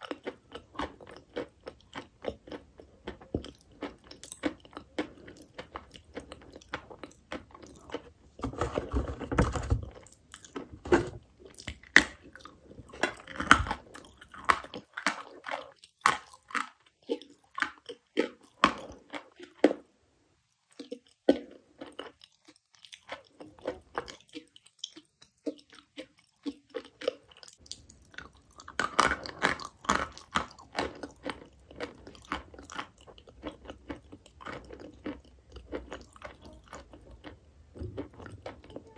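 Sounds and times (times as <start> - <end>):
chalk crunching while chewed: 0.0 - 8.2, 11.4 - 38.9.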